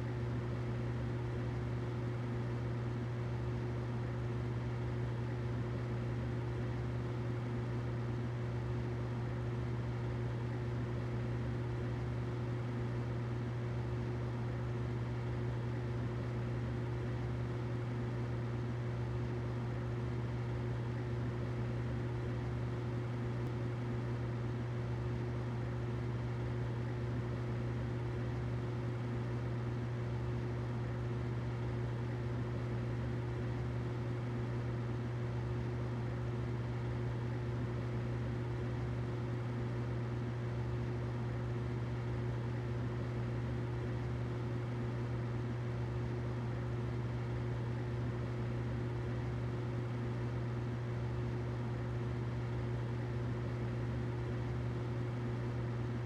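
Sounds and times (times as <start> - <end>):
humidifier humming and hissing: 0.0 - 56.0.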